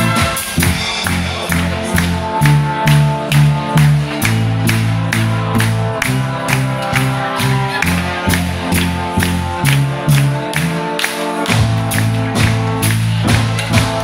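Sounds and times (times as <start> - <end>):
brass band playing: 0.0 - 14.0
sousaphone bass line: 0.0 - 14.0
steady drum beat: 0.0 - 14.0.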